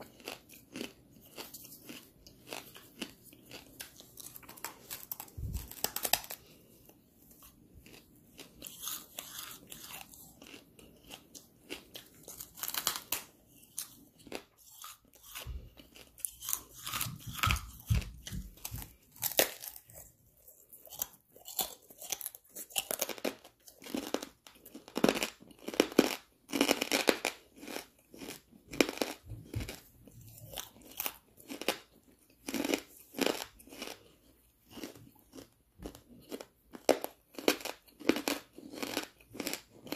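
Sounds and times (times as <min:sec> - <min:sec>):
chewing hard charcoal crunches: 0:00.0 - 0:39.9.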